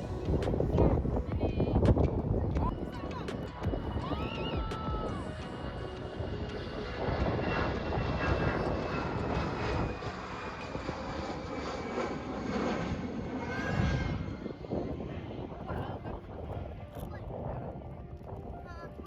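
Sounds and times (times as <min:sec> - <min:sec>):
jet engines roaring: 0:00.0 - 0:18.3.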